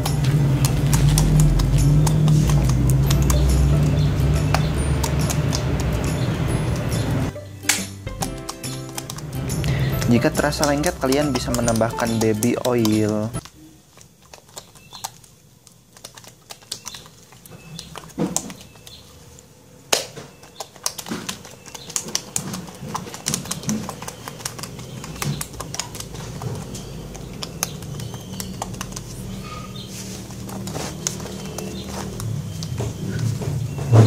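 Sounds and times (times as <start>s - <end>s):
slime squishing with wet clicks: 0.0s - 33.9s.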